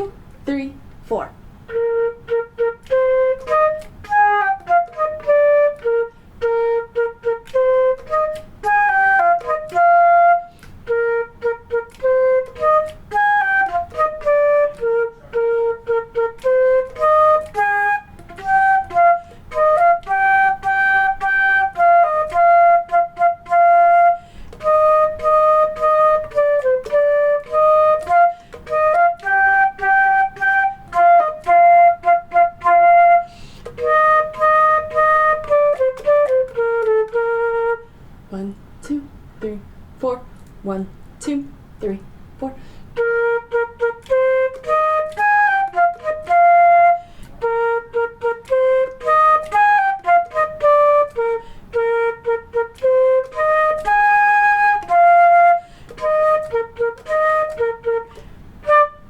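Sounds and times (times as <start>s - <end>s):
solo flute melody: 1.6s - 38.4s, 42.9s - 59.0s.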